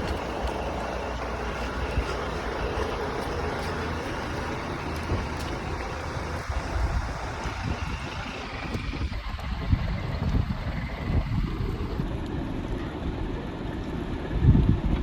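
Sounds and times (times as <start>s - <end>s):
low bumps: 0.0s - 12.2s
bus engine and road rumble: 0.0s - 15.0s.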